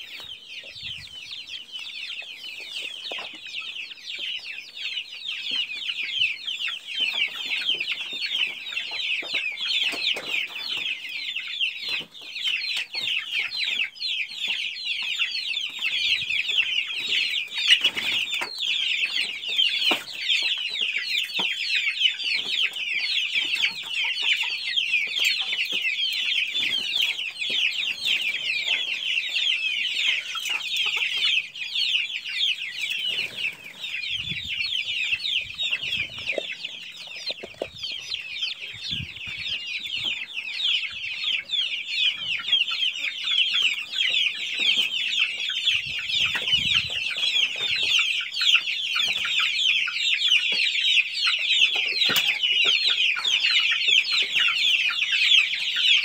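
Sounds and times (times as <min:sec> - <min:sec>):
chicks peeping: 0:00.0 - 0:56.0
hens clucking: 0:00.0 - 0:56.0.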